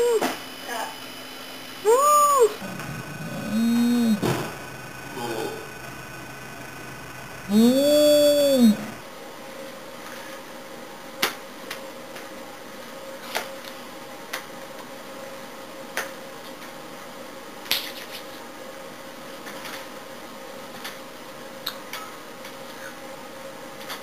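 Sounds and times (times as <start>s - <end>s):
faint hum and hiss: 0.0s - 24.0s.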